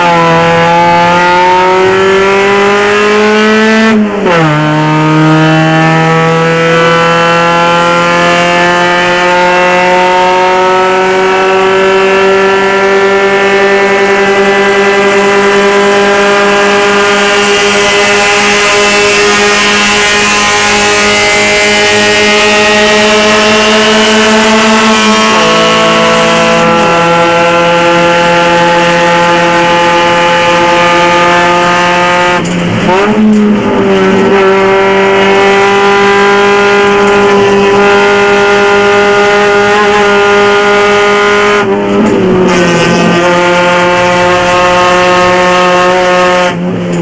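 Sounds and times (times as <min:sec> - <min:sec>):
race car engine at high revs: 0:00.0 - 0:47.0.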